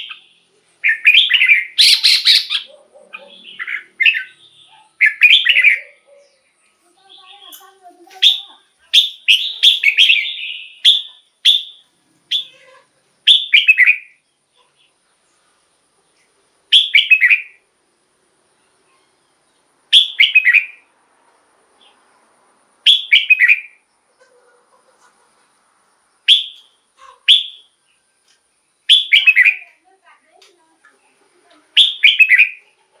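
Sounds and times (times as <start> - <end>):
bird singing bright phrases: 0.0 - 17.7, 18.5 - 20.9, 22.8 - 23.9, 26.2 - 32.8.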